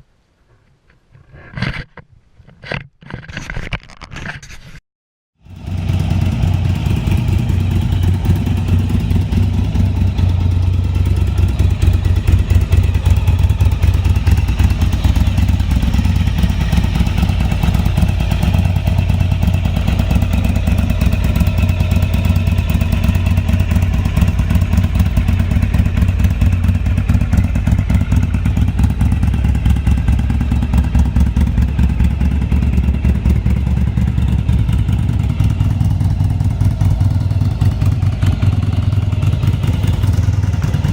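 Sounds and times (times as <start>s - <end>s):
motorcycle engine deep pulsing exhaust: 5.4s - 40.9s.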